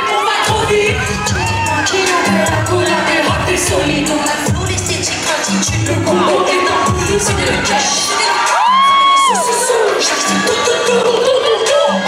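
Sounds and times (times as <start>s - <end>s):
live concert music: 0.0s - 12.0s
singers on microphones: 0.0s - 12.0s.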